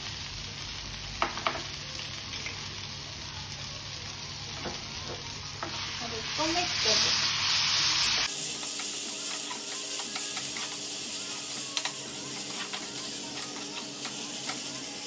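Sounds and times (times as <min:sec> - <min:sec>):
vegetables sizzling in a pan: 0:00.0 - 0:15.0.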